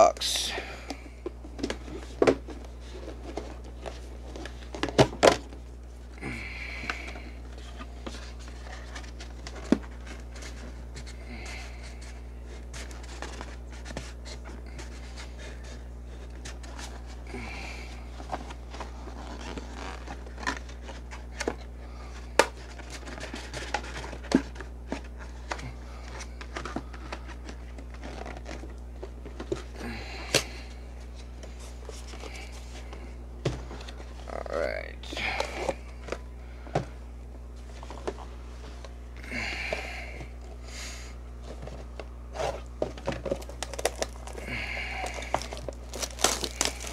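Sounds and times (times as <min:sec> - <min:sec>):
steady low hum: 0:00.0 - 0:46.9
plastic and cardboard rustling: 0:01.2 - 0:06.1, 0:06.8 - 0:30.4, 0:31.0 - 0:34.5, 0:35.2 - 0:39.0, 0:41.3 - 0:46.9.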